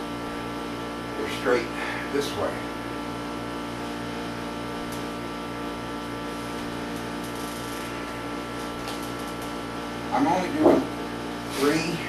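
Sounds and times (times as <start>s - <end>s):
pulsing electrical hum: 0.0s - 12.0s.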